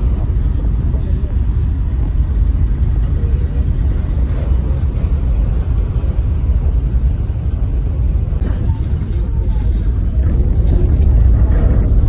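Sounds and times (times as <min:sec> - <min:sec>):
ship engines: 0:00.0 - 0:12.0
wake wash: 0:00.0 - 0:12.0
wind buffeting microphone: 0:00.0 - 0:12.0.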